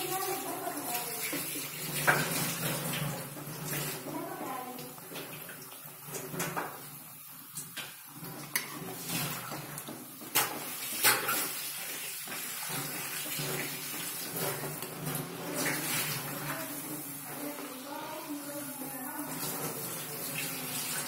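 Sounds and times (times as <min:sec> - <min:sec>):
dough sizzling in hot oil: 0:00.0 - 0:17.3.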